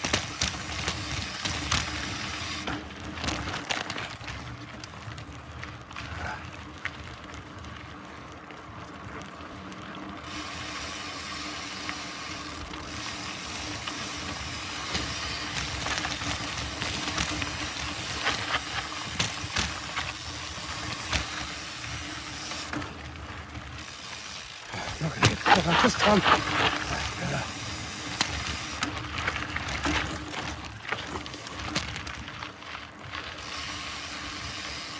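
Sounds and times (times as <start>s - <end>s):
bike rattling over bumps: 0.0s - 34.9s
bike tyre noise on dirt: 0.0s - 34.9s.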